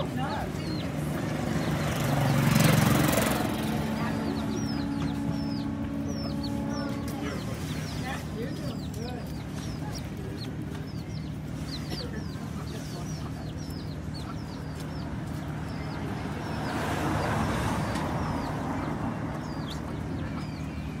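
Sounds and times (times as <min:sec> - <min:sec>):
vehicle passing: 0:00.0 - 0:21.0
young chickens peeping: 0:00.0 - 0:21.0
steady low rumble: 0:03.2 - 0:21.0.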